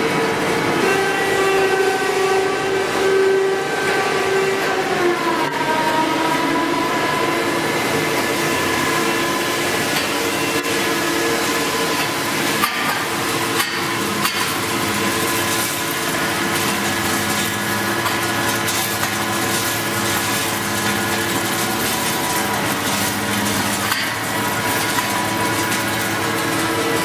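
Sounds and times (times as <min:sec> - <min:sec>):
machine mechanical drone: 0:00.0 - 0:27.0.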